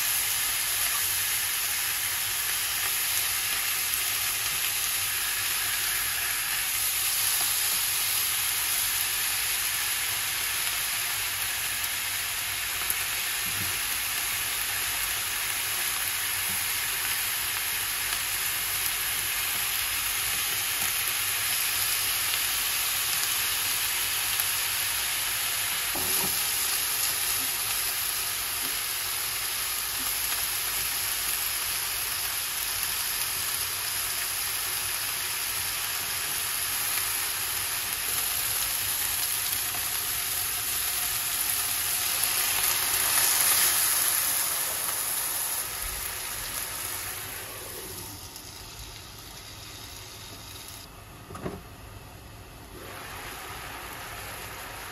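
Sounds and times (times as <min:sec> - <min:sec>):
meat sizzling in a frying pan: 0:00.0 - 0:50.9, 0:52.7 - 0:54.9.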